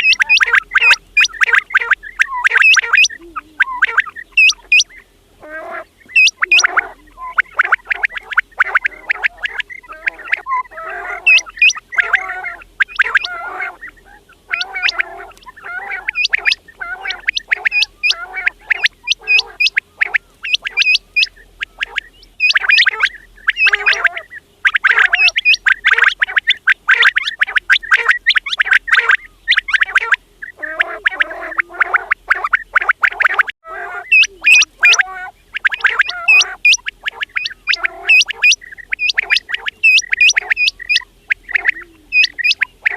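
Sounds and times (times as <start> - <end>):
quails calling: 0.0 - 42.9.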